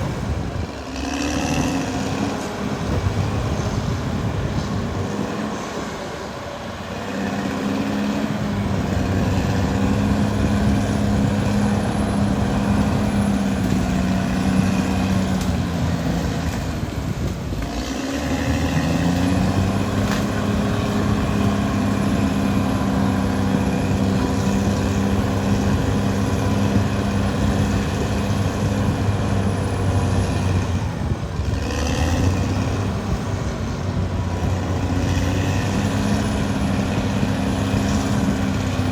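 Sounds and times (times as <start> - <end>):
bulldozer diesel engine under load: 0.0 - 38.9.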